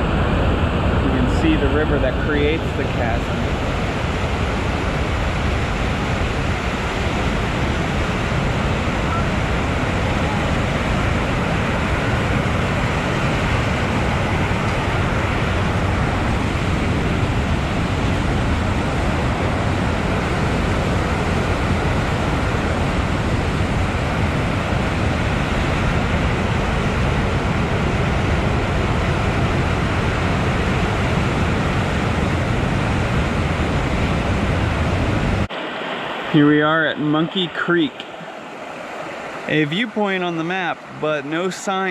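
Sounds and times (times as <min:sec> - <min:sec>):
river rushing roar: 0:00.0 - 0:41.9.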